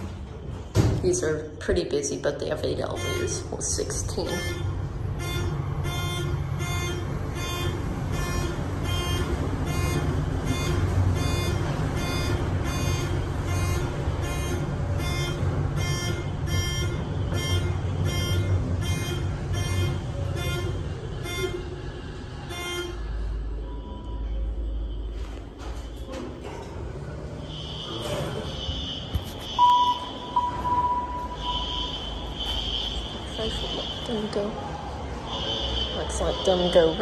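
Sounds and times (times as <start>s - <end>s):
elevator ride rumble: 0.0s - 37.0s
fire alarm horns pulsing: 1.4s - 26.2s, 27.3s - 37.0s.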